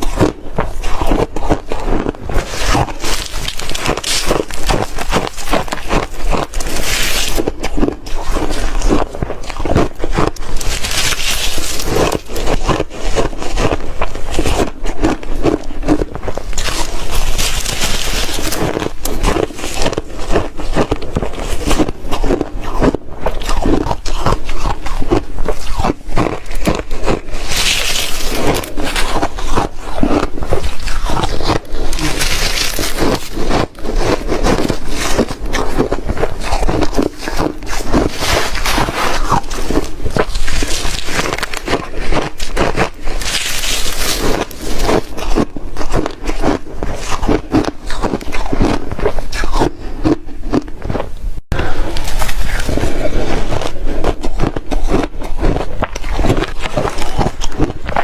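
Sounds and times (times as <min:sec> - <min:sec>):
chewing crunchy ice: 0:00.0 - 0:58.0.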